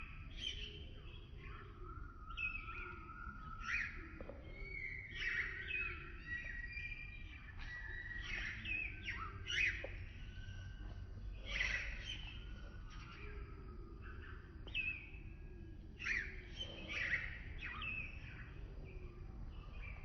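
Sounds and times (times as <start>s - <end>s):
birds singing and calling: 0.0s - 20.0s.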